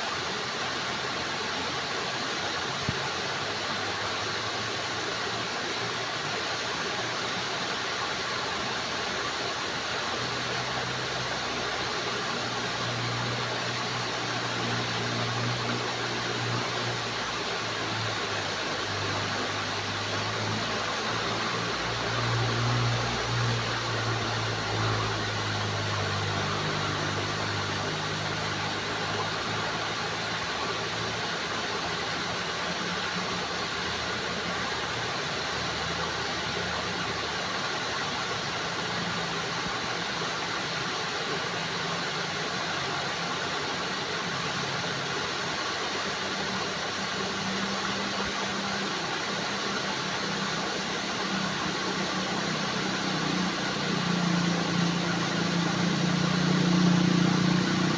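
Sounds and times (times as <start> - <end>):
water flowing: 0.0 - 57.9.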